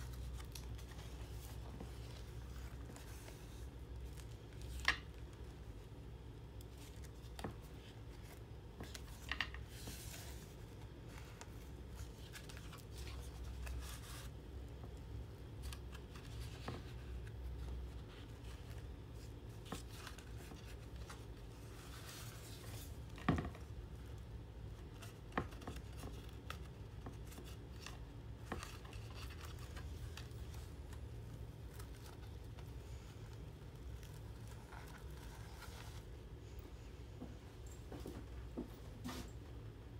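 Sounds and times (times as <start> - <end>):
pages turning and rustling: 0.0 - 36.6.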